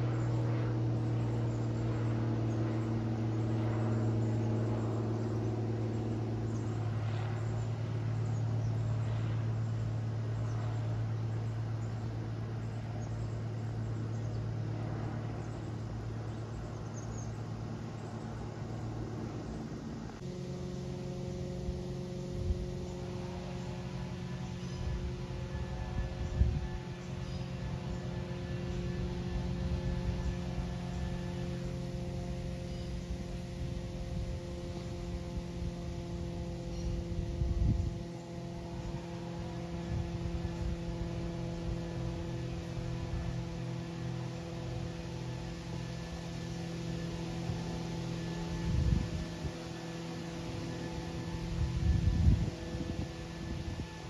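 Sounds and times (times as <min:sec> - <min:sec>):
propeller plane droning overhead: 0:00.0 - 0:54.0
steady engine hum with tones: 0:00.0 - 0:54.0.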